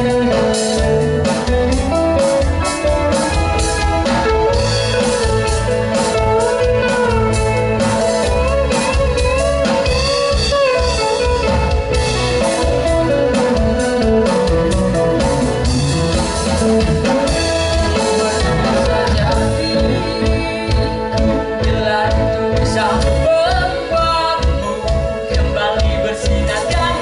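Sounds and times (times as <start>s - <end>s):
bass and drum kit: 0.0s - 27.0s
electric guitar bending melody: 0.0s - 27.0s.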